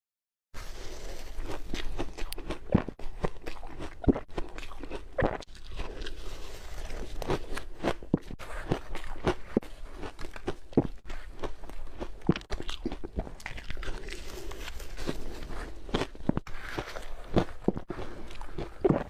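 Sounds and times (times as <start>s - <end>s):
ice being chewed: 0.6s - 19.0s.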